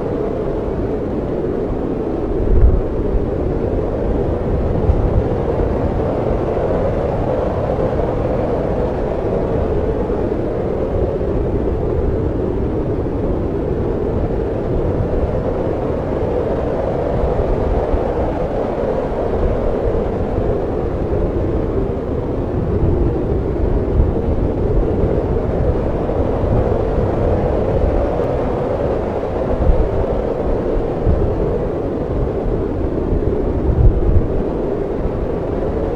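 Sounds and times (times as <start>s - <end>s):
snowstorm wind blowing: 0.0s - 35.9s.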